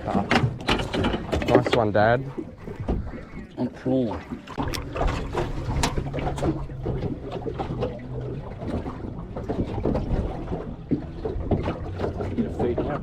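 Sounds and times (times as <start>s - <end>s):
knocks and clatter on boat: 0.0s - 13.0s
water: 0.0s - 13.0s
wind: 0.0s - 13.0s.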